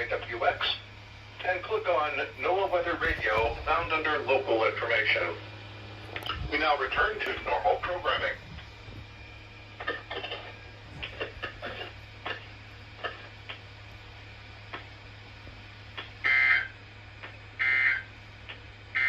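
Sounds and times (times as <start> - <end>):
radio receiver low hum: 0.0 - 19.0.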